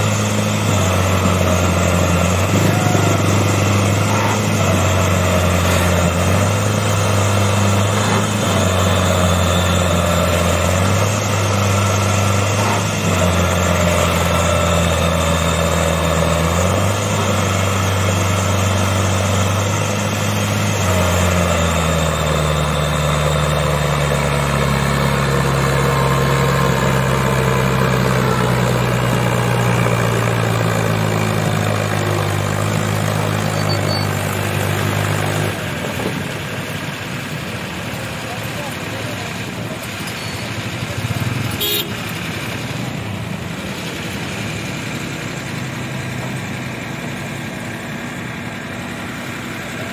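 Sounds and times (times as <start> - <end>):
tractor diesel engine labouring: 0.0 - 49.9.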